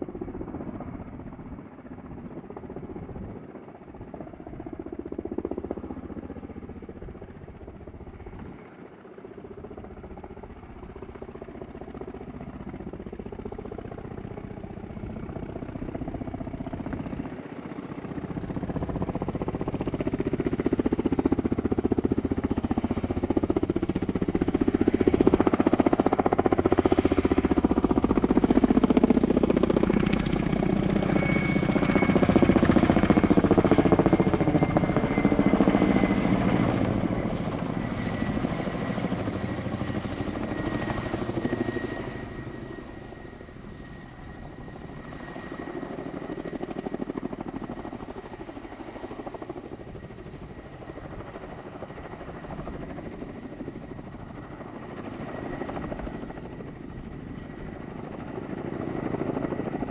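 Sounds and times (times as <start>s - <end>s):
helicopter rotor noise: 0.0s - 59.9s.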